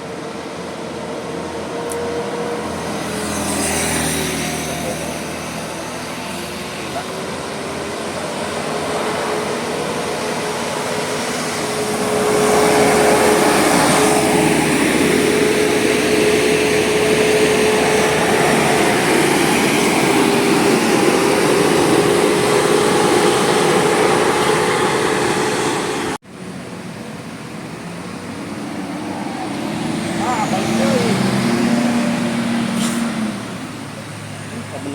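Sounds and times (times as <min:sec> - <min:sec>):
large vehicle engine with whine: 0:00.0 - 0:34.9
road traffic: 0:00.0 - 0:34.9.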